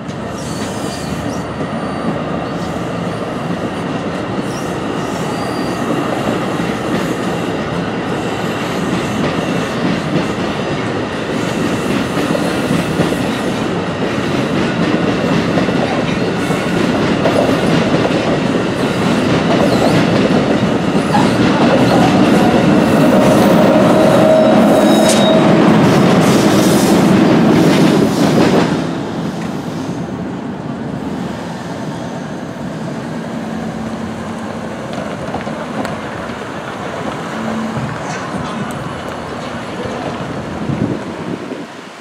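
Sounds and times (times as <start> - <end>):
train wheels clattering over rails: 0.0 - 29.9, 34.2 - 41.8
road traffic noise: 0.0 - 42.0.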